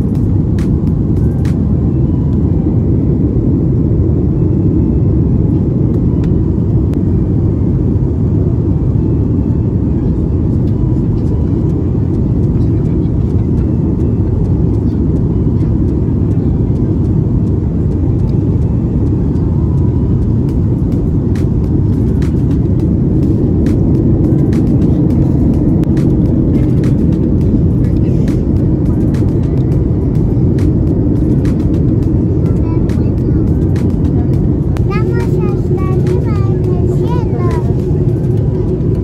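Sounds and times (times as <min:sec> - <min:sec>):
jet airliner cabin noise: 0:00.0 - 0:39.0.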